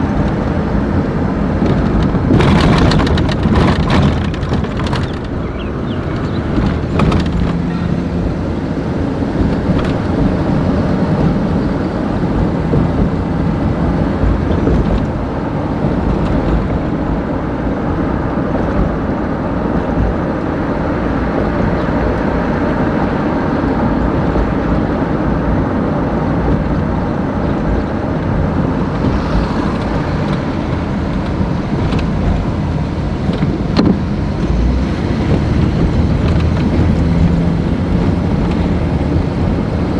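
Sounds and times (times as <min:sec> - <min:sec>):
vehicle engine rumble: 0:00.0 - 0:39.9
wind noise on microphone: 0:00.0 - 0:39.9.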